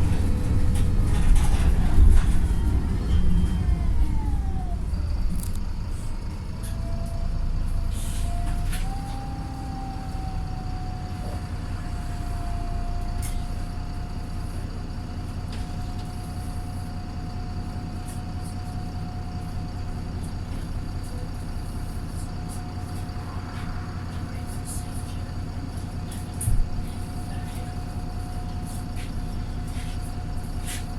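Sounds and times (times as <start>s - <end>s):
bus diesel engine: 0.0s - 30.9s.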